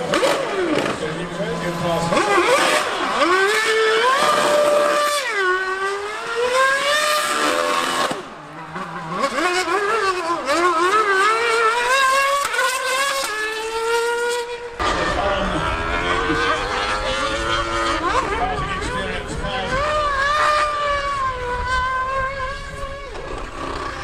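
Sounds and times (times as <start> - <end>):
racing car engine revving: 0.0 - 24.0.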